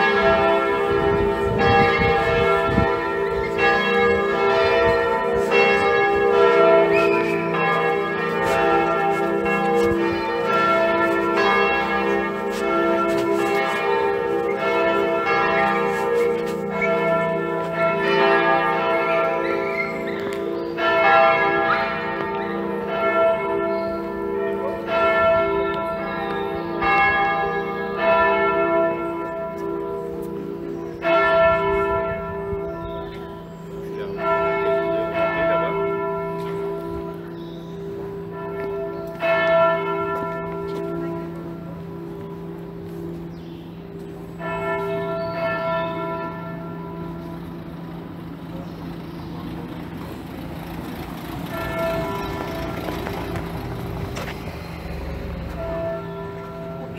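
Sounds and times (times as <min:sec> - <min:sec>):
church bells pealing: 0:00.0 - 0:56.9.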